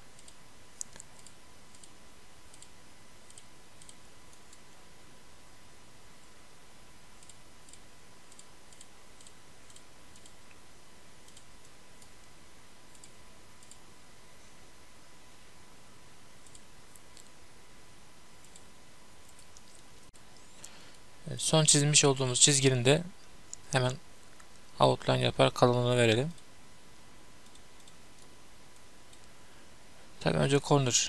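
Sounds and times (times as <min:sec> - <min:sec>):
faint steady hiss: 0:00.0 - 0:31.0.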